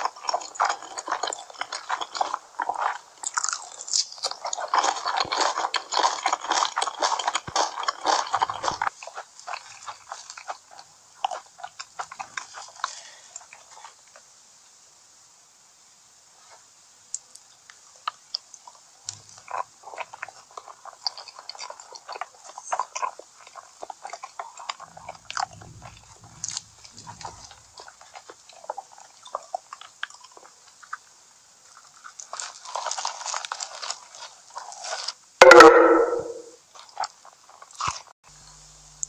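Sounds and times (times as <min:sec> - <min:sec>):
chewing and crunching: 0:00.0 - 0:14.4, 0:16.5 - 0:35.6, 0:36.6 - 0:39.0.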